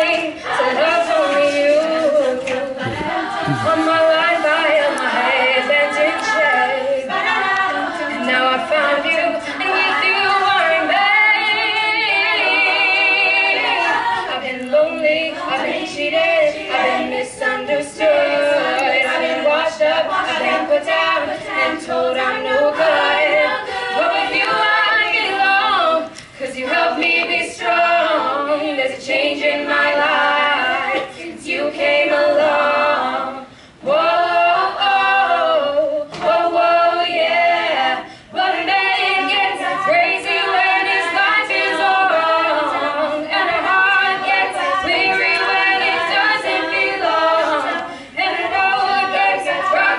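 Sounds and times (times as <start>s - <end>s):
women singing a cappella: 0.0s - 49.9s.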